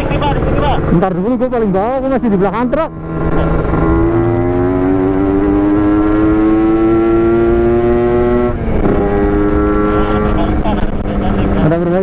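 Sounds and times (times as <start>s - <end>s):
two-stroke engine accelerating: 0.0s - 12.0s.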